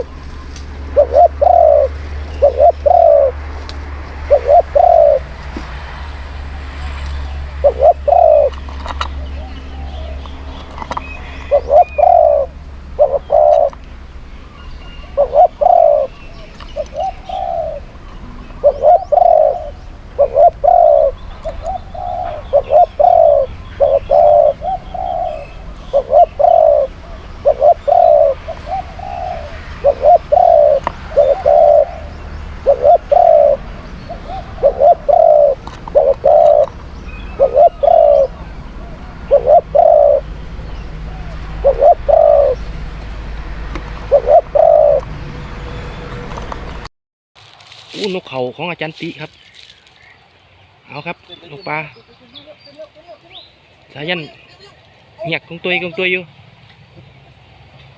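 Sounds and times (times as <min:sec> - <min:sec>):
doves cooing: 0:00.0 - 0:46.8.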